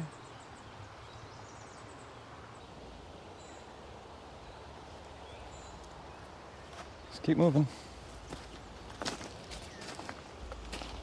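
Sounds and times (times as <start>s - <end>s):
quiet outdoor background noise: 0.0s - 11.0s.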